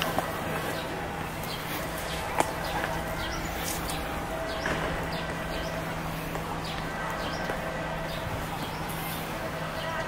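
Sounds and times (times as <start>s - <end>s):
small birds chirping: 0.5s - 10.0s.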